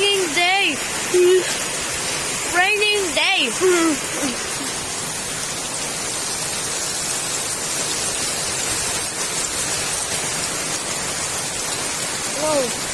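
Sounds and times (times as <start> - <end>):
heavy rain falling: 0.0 - 12.9.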